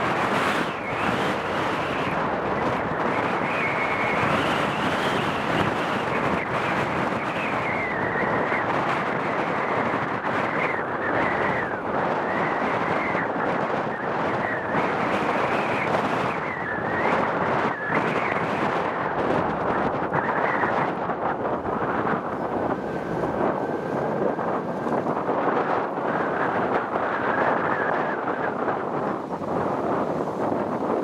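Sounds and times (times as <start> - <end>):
jet engines roaring at takeoff: 0.0 - 31.0
wind buffeting microphone: 0.0 - 31.0.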